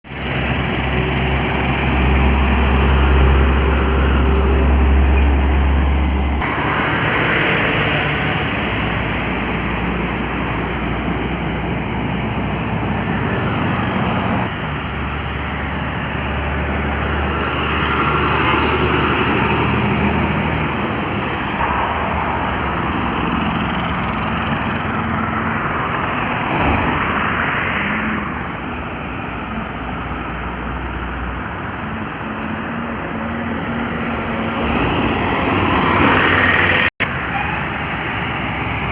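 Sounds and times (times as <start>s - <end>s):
truck engines rumbling: 0.0s - 38.9s
tyre and road noise: 0.0s - 38.9s.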